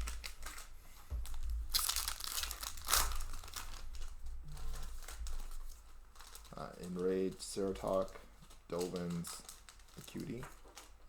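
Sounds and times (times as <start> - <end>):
foil wrapper crinkling: 0.0 - 11.0
foil wrapper ripping: 0.0 - 11.0.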